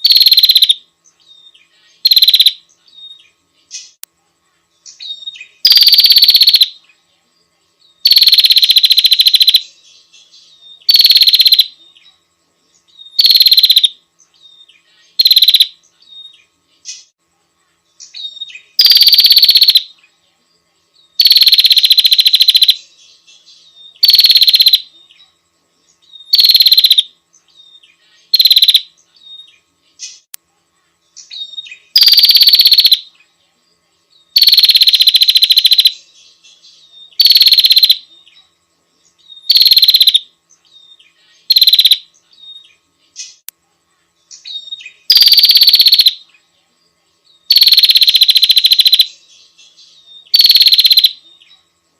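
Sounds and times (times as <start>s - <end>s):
bird buzzing rattle calls: 0.0s - 4.0s, 4.8s - 7.0s, 8.0s - 17.2s, 18.0s - 20.2s, 21.2s - 30.3s, 31.1s - 33.4s, 34.3s - 43.5s, 44.2s - 46.4s, 47.4s - 51.6s.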